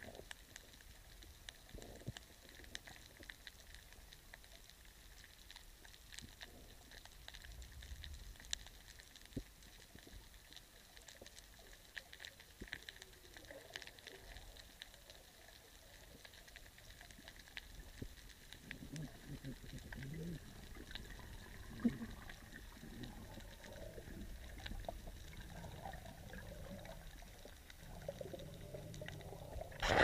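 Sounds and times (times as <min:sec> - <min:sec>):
underwater clicks crackling: 0:00.0 - 0:30.0.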